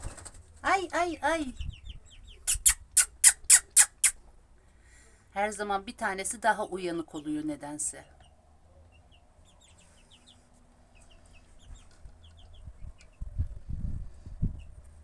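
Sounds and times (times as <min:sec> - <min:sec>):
chicks peeping: 0:00.0 - 0:04.2, 0:07.2 - 0:15.0.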